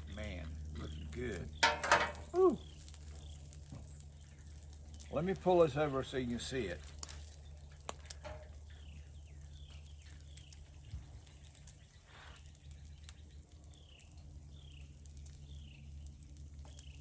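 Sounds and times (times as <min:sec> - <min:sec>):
bird chirping: 0:00.0 - 0:05.3, 0:07.2 - 0:17.0
steady low hum: 0:00.0 - 0:17.0.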